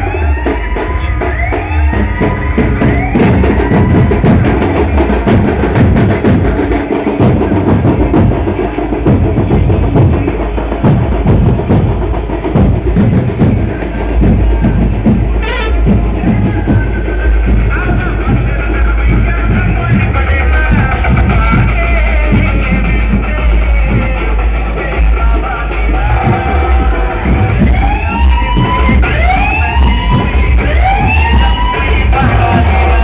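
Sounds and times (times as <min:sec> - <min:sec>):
fast dense drumming: 0:00.0 - 0:33.0.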